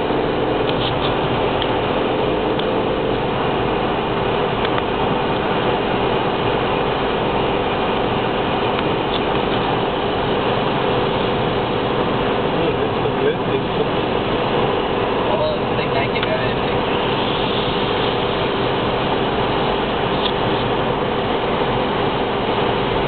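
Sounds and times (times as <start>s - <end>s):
car engine hum: 0.0s - 23.0s
tyre noise on wet road: 0.0s - 23.0s.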